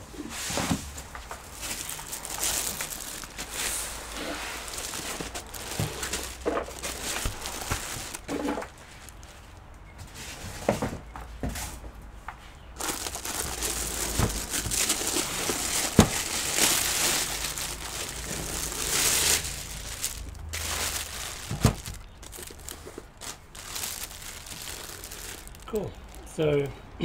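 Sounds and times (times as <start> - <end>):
plastic bag crinkling: 1.2 - 9.3, 12.8 - 26.8.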